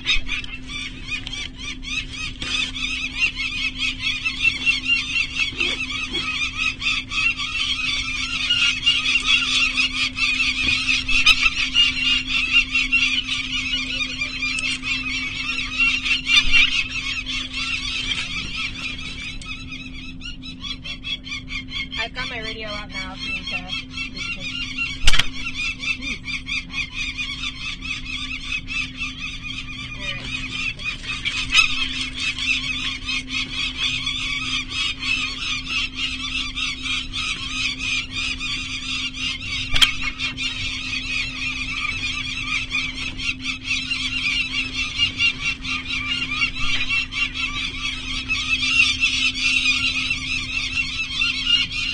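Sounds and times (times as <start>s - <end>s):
falcons cacking harshly: 0.0s - 51.9s
steady low hum: 0.0s - 51.9s.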